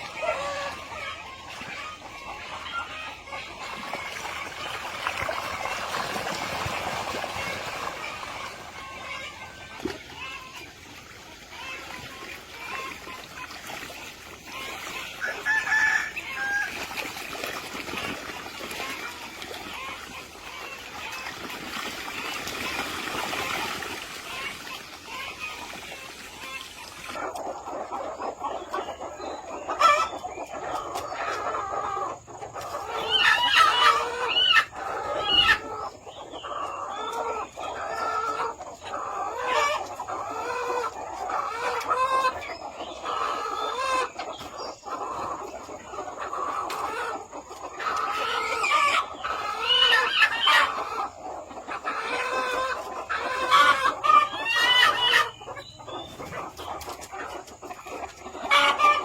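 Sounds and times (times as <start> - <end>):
chickens clucking: 0.0 - 59.0
excited chicken calls: 0.0 - 59.0.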